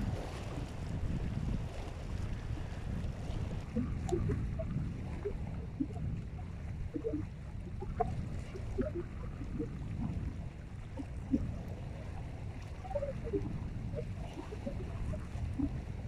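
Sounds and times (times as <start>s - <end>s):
small waves lapping: 0.0s - 16.0s
steady low rumble: 0.0s - 16.0s.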